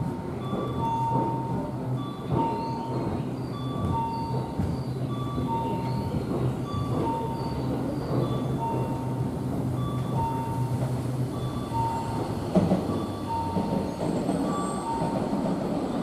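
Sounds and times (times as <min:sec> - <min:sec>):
electric train rumbling: 0:00.0 - 0:16.0
train wheel knocks: 0:00.4 - 0:16.0.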